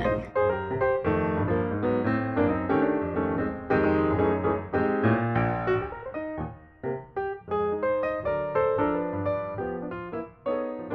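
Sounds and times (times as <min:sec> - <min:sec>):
light piano tune: 0:00.0 - 0:10.9.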